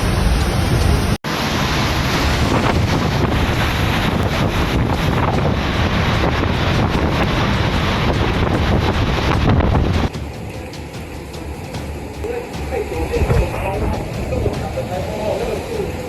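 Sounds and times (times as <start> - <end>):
driving rain: 0.0 - 16.0
strong wind blasting microphone: 0.0 - 16.0.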